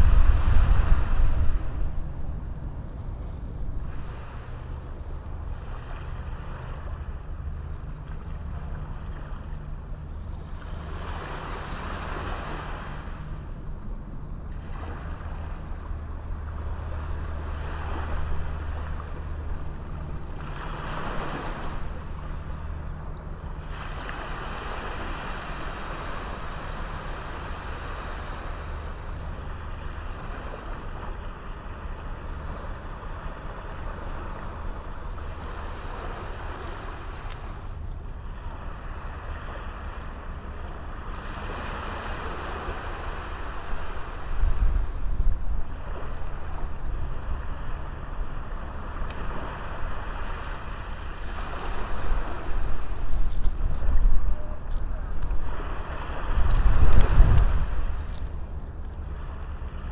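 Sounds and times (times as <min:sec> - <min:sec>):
sea waves washing onto beach: 0:00.0 - 0:13.8, 0:14.5 - 0:59.9
steady low rumble: 0:00.0 - 0:59.9.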